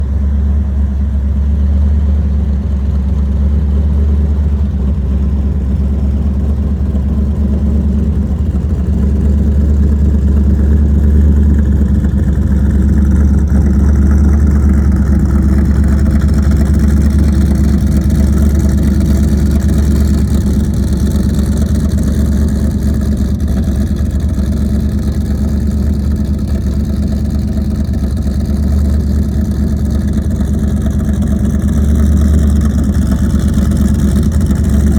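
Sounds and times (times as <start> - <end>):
pickup truck engine idling: 0.0 - 34.9.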